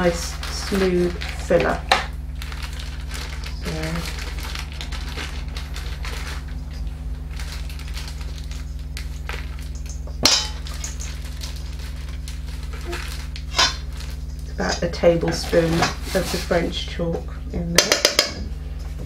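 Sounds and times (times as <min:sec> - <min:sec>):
paper bag crinkling: 0:00.0 - 0:16.7
low hum: 0:00.0 - 0:19.0.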